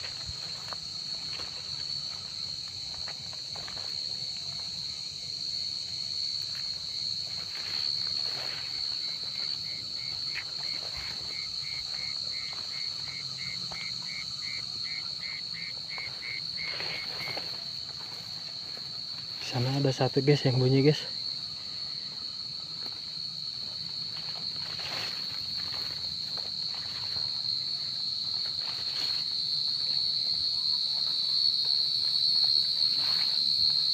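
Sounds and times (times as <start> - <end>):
crickets trilling: 0.0 - 33.9
lower pulsed insect call: 0.0 - 33.9.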